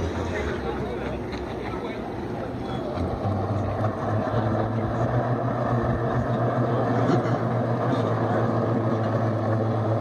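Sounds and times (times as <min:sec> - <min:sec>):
watercraft engine running: 0:00.0 - 0:10.0.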